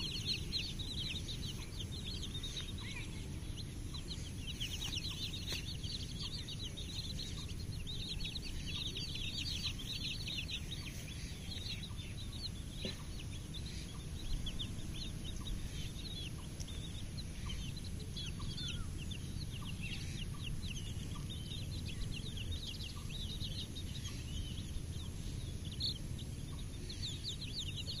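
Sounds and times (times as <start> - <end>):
baby chicks peeping: 0.0 - 28.0
low background noise: 0.0 - 28.0.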